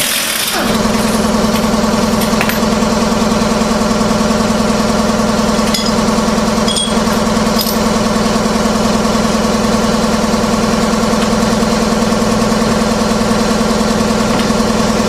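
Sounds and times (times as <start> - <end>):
machine droning with low hum: 0.4 - 15.0.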